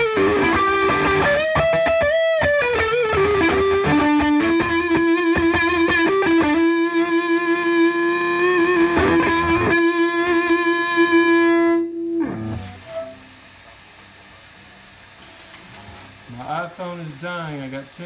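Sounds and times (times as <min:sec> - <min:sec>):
electric guitar through amp: 0:00.0 - 0:14.7
low amp hiss: 0:00.0 - 0:18.0.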